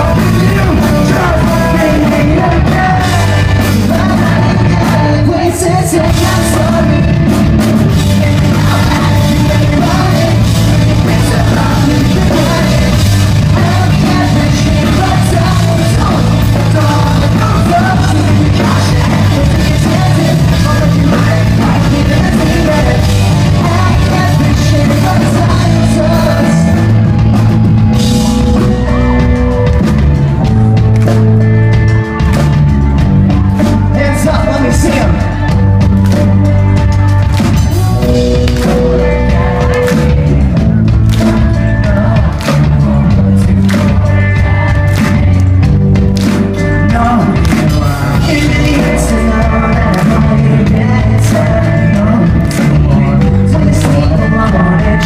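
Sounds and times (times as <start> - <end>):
person singing: 0.0 - 29.7, 33.2 - 45.8, 46.4 - 55.0
rock band playing: 0.0 - 55.0.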